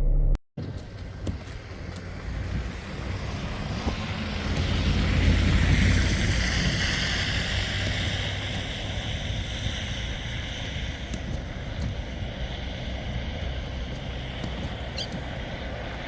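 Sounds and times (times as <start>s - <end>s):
wind buffeting microphone: 0.6s - 16.0s.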